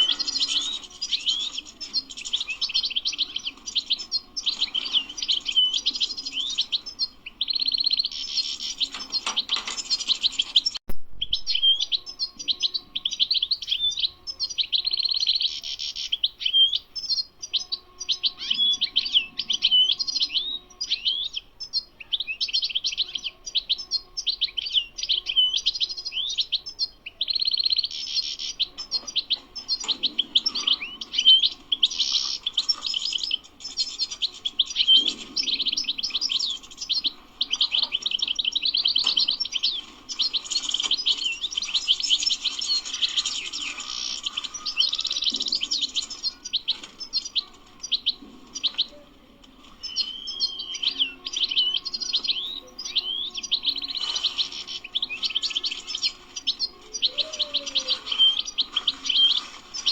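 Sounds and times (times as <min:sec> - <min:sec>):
goldfinch twittering song: 0:00.0 - 0:49.0, 0:49.6 - 0:59.9.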